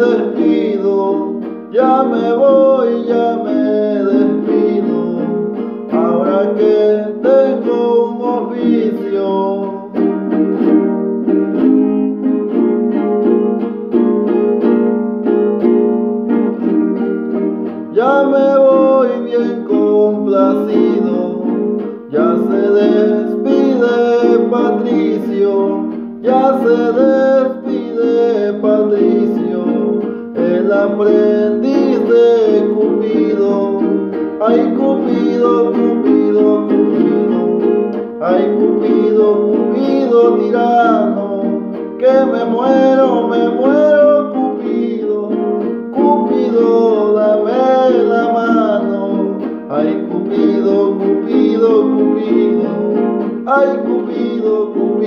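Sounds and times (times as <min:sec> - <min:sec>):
man singing: 0:00.0 - 0:10.8, 0:17.6 - 0:55.0
strummed guitar: 0:00.0 - 0:55.0.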